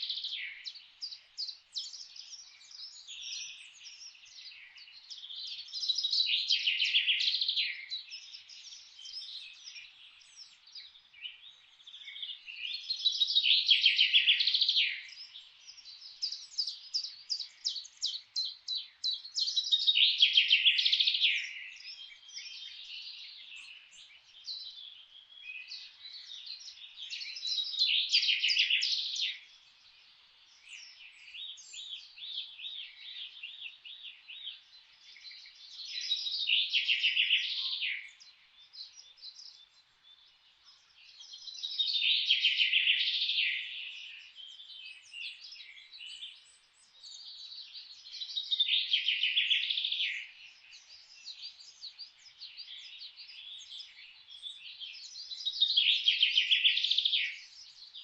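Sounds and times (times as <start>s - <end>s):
soft bird chirps: 0.0s - 58.0s.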